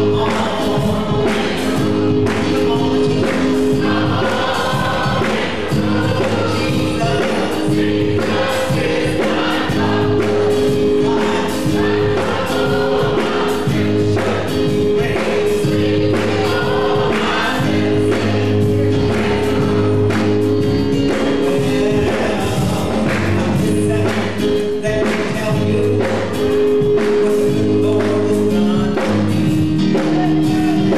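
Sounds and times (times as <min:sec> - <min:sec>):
drums: 0:00.0 - 0:30.9
gospel choir singing: 0:00.0 - 0:30.9
keyboards: 0:00.0 - 0:30.9.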